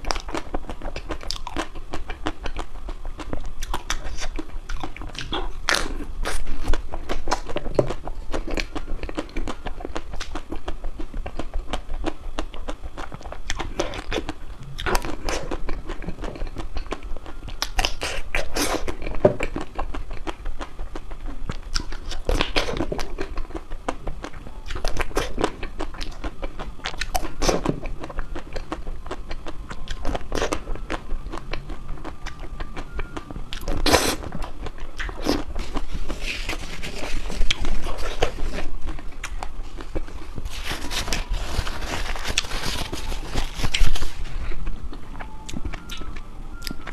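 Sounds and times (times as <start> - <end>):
crunching ice cream: 0.0 - 46.9.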